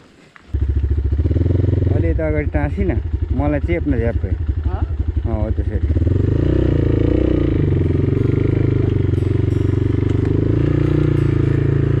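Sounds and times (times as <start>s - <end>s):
dirt bike engine running: 0.5s - 12.0s.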